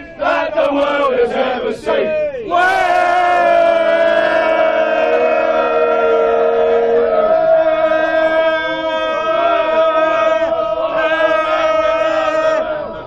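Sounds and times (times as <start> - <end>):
crowd chanting: 0.0 - 13.0
people shouting: 1.2 - 13.0.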